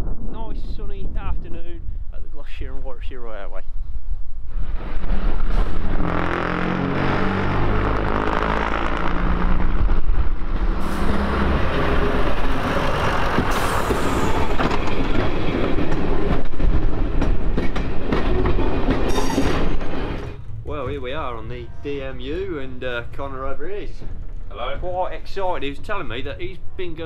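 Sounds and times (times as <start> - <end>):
train rumbling on track: 0.0 - 27.0
diesel train engine: 4.5 - 26.7.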